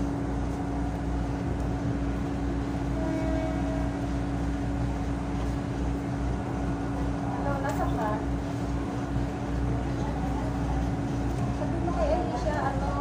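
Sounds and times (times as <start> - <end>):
train rumble inside cabin: 0.0 - 13.0.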